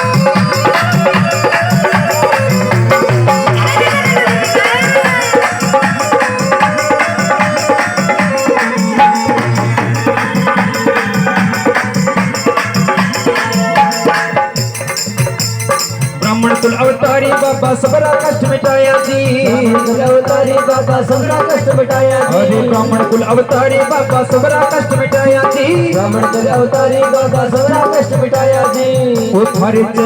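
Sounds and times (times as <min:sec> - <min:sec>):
devotional instrumental melody: 0:00.0 - 0:30.0
folk percussion rhythm: 0:00.0 - 0:30.0.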